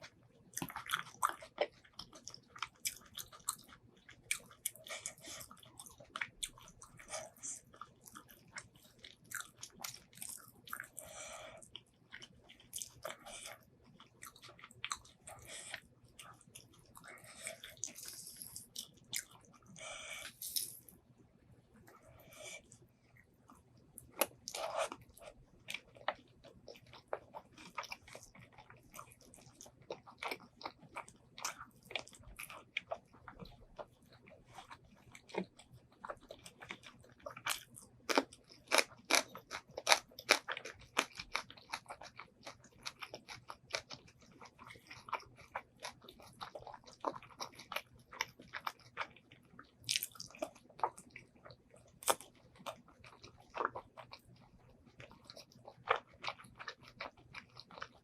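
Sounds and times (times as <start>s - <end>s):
close chewing and biting: 0.0s - 21.0s, 21.9s - 58.0s.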